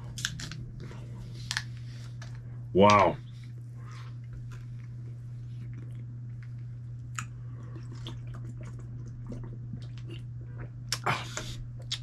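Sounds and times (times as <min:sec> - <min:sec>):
person chewing: 0:00.0 - 0:02.4, 0:03.9 - 0:12.0
steady low hum: 0:00.0 - 0:12.0.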